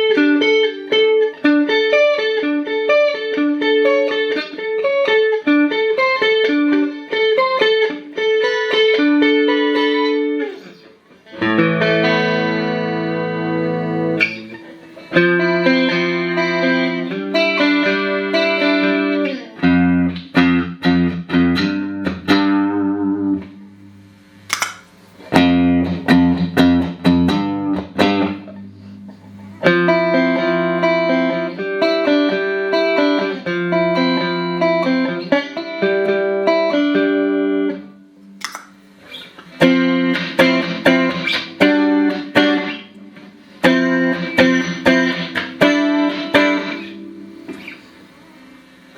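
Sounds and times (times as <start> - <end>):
clean electric guitar with chorus: 0.0 - 48.9.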